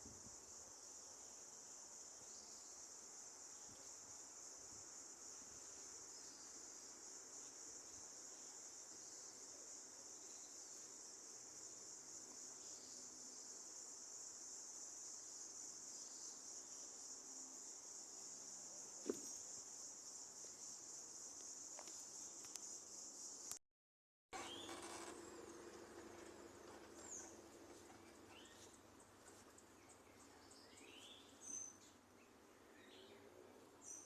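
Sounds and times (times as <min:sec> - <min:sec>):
high-pitched insect chorus: 0:00.0 - 0:23.6, 0:24.4 - 0:34.0.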